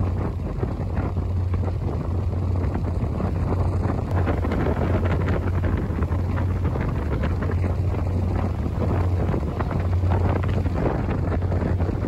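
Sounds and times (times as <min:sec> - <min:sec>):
ferry engine droning: 0:00.0 - 0:12.0
wind buffeting microphone: 0:00.0 - 0:12.0.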